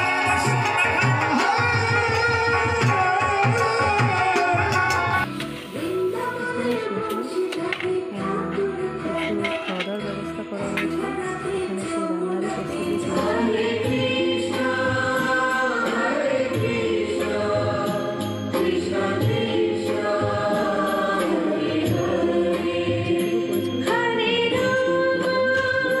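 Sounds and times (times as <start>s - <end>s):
devotional song singing: 0.0s - 26.0s.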